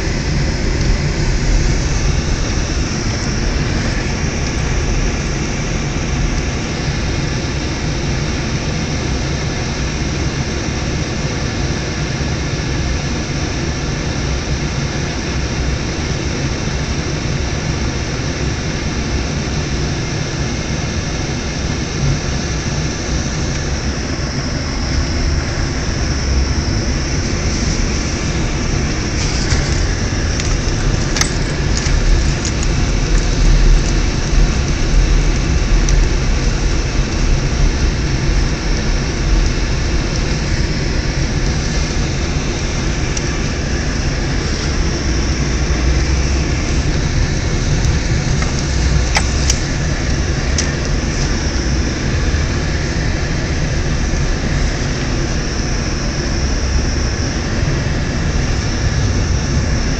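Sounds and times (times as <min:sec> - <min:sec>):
car engine rumble: 0:00.0 - 0:59.9
road noise hiss: 0:00.0 - 0:59.9.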